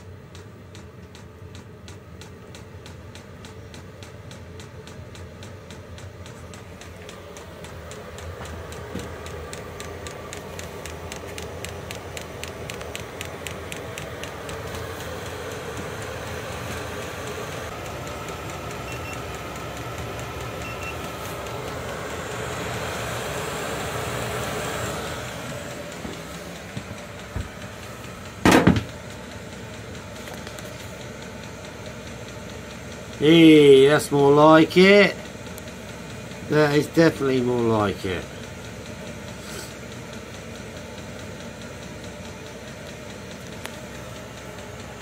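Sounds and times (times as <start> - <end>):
fast regular ticking: 0.0 - 45.0
heater mechanical whirr: 0.0 - 45.0.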